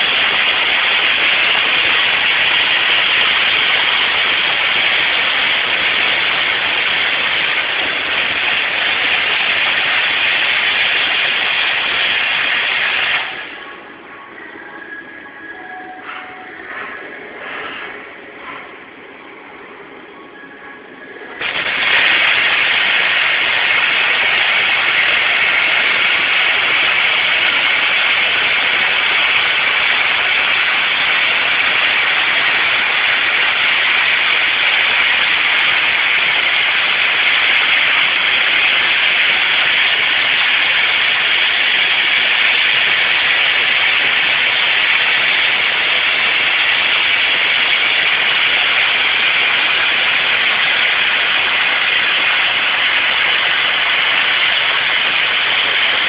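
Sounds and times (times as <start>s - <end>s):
welding arc hissing: 0.0s - 13.7s, 21.4s - 56.0s.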